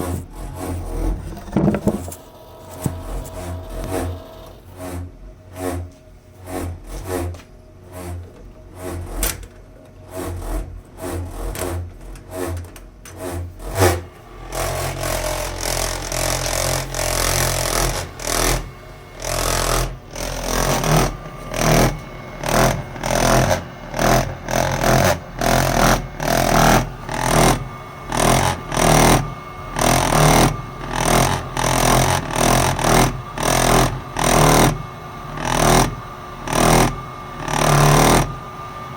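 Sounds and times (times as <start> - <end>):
boiler vibrating hum: 0.0 - 38.9.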